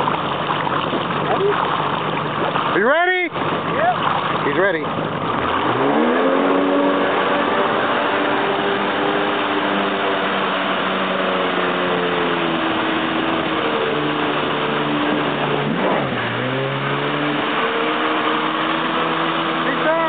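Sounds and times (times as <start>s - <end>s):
boat engine running at speed: 0.0s - 20.0s
rushing water: 0.0s - 20.0s
wind: 0.0s - 20.0s.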